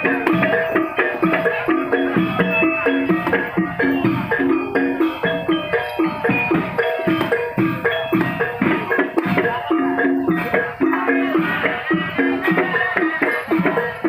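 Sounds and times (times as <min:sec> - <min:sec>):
metallophones struck: 0:00.0 - 0:14.0
steady drumming: 0:00.0 - 0:14.0.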